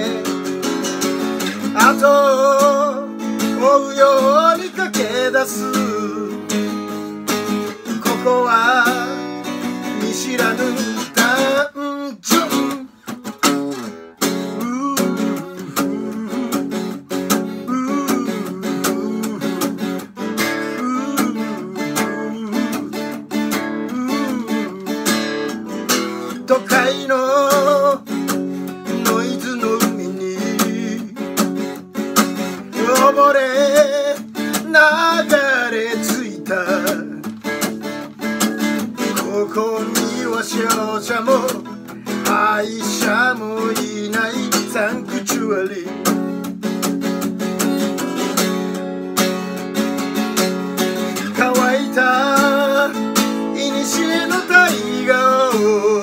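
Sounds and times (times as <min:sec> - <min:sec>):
person singing: 0:00.0 - 0:06.8, 0:07.6 - 0:13.1, 0:14.3 - 0:31.5, 0:32.6 - 0:46.3, 0:50.9 - 0:56.0
acoustic guitar strummed hard: 0:00.0 - 0:56.0.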